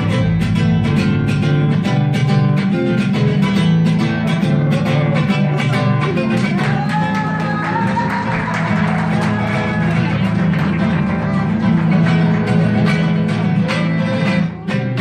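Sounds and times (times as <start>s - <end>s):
mariachi band playing: 0.0s - 15.0s.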